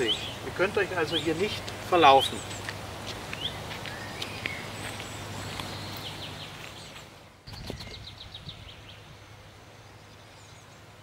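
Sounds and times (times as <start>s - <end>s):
outdoor background hum: 0.0s - 11.0s
small birds chirping: 0.0s - 11.0s.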